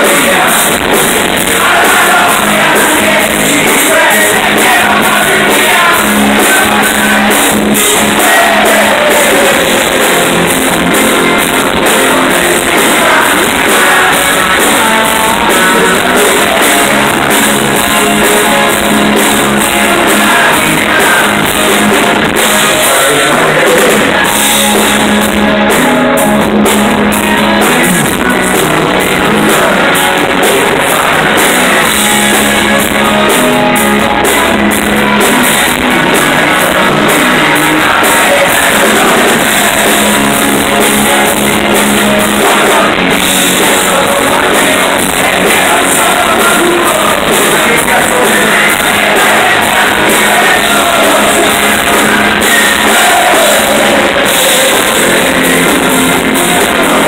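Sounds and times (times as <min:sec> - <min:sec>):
drum kit: 0:00.0 - 0:57.0
electric guitar: 0:00.0 - 0:57.0
rock band playing live: 0:00.0 - 0:57.0.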